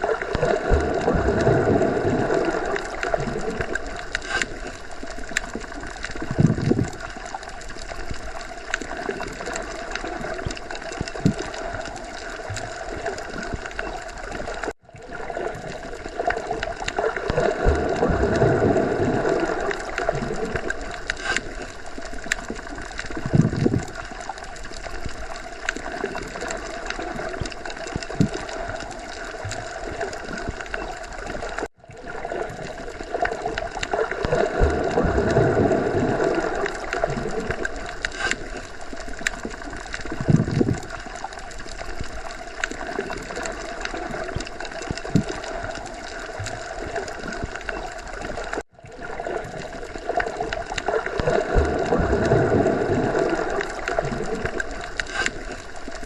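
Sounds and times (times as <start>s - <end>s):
low gurgling swells: 0.0s - 56.0s
small bubbly clicks: 0.0s - 56.0s
underwater water wash: 0.0s - 56.0s.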